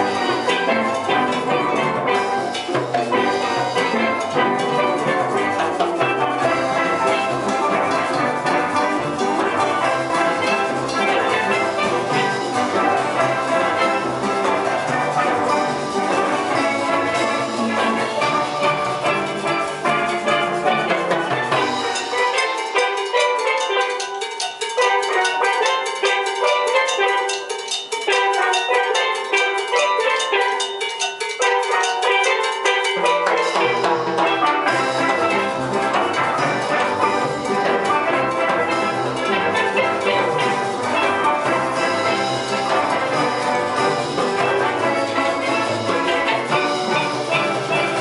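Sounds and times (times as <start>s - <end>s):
steel pan band playing: 0.0s - 48.0s.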